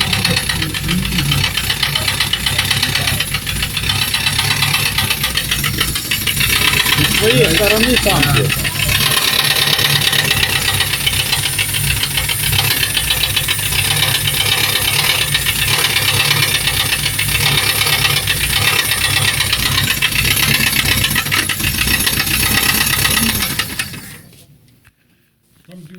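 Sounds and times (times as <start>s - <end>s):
metallic knocking rattle: 0.0s - 24.2s
engine running: 0.0s - 24.4s.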